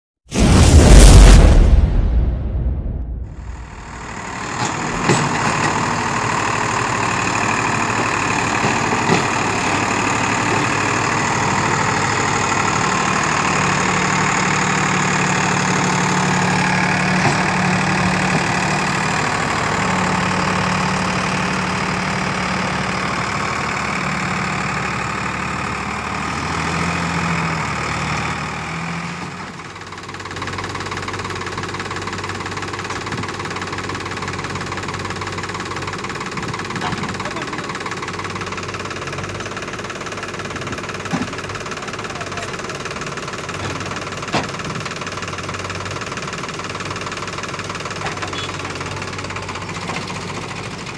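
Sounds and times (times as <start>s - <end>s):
tractor diesel engine running: 3.2s - 50.9s.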